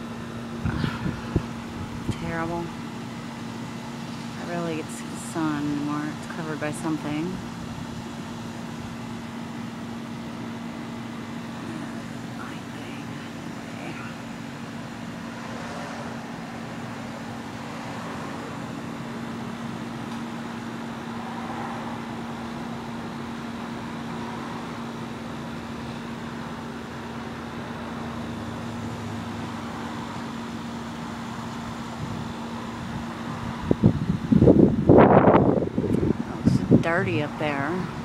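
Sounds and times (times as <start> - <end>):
distant traffic and machinery hum: 0.0 - 38.0.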